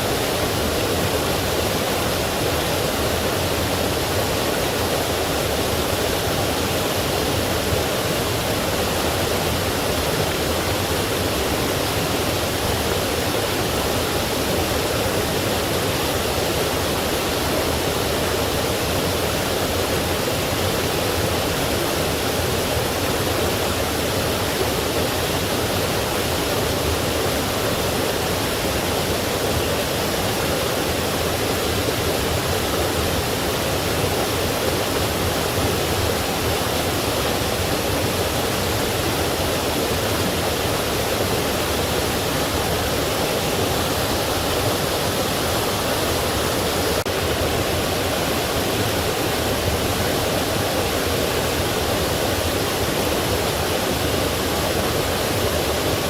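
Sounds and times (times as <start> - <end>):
stream and waterfall rushing: 0.0 - 56.0.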